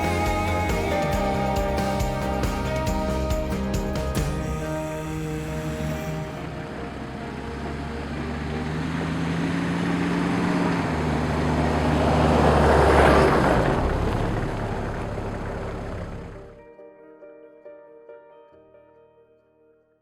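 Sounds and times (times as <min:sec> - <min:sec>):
motor vehicle passing: 0:00.0 - 0:16.6.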